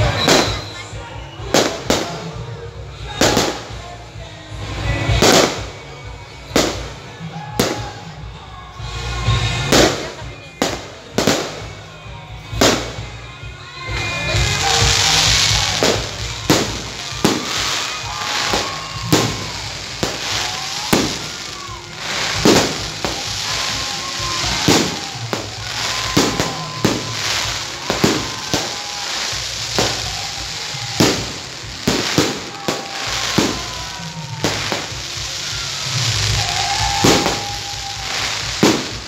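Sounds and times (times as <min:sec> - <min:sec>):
fireworks bangs: 0:00.0 - 0:08.2, 0:09.1 - 0:11.9, 0:12.5 - 0:13.1, 0:14.0 - 0:39.0
fireworks crackle: 0:00.0 - 0:39.0.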